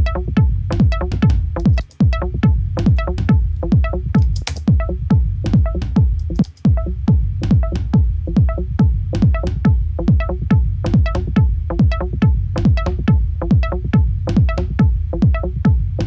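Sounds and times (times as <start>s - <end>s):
techno loop: 0.0s - 16.0s.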